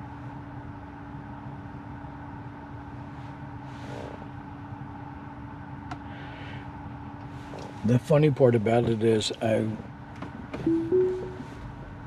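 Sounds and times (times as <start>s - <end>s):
car cabin hum and hiss: 0.0s - 12.0s.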